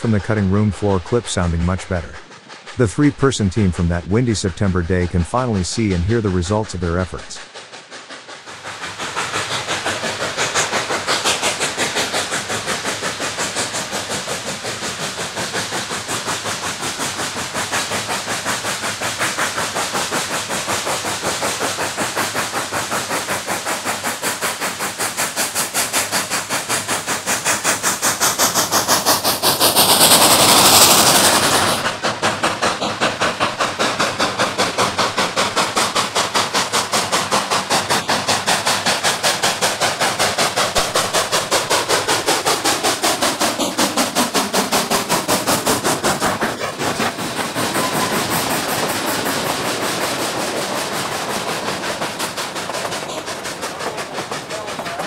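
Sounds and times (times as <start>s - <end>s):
steam hissing: 0.0s - 55.0s
steam locomotive exhaust chuffing: 0.0s - 55.0s.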